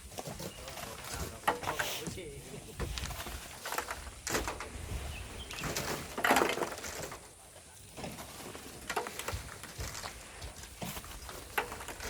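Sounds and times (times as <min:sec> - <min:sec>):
hand tools scraping sand and stones: 0:00.0 - 0:12.0.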